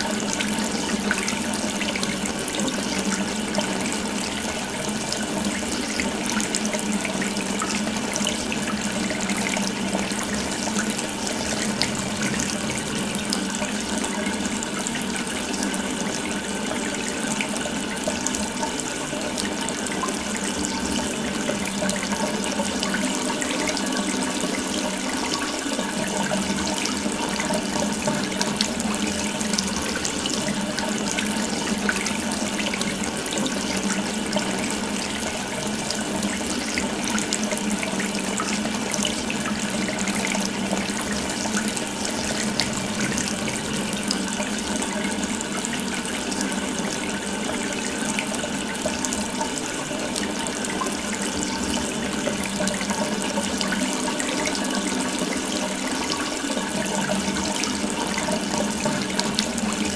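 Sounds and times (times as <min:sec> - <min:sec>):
water running from tap: 0:00.0 - 0:59.9.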